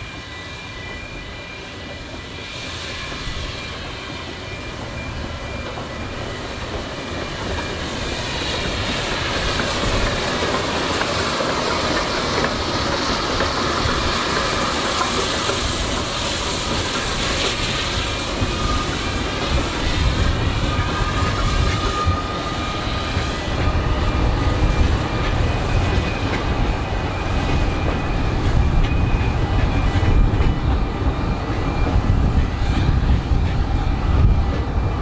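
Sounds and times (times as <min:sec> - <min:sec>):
steam locomotive passing: 0:00.0 - 0:35.0.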